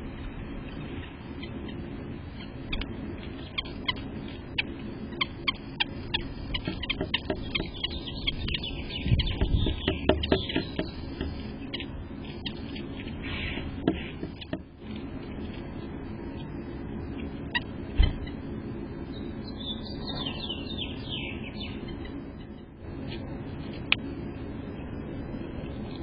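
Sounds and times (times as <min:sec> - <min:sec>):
birds ticking: 0:00.0 - 0:26.0.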